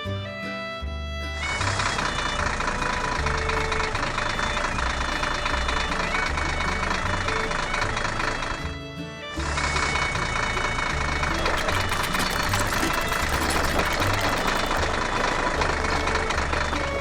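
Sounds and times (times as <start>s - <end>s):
heavy machine engine rumbling: 0.1s - 17.0s.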